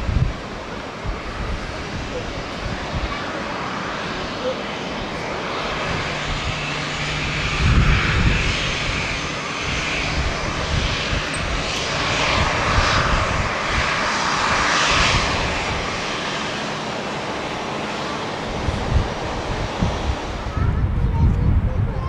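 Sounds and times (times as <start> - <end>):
jet engine whine and hiss: 0.0 - 22.0
wind rumbling on microphone: 0.0 - 22.0.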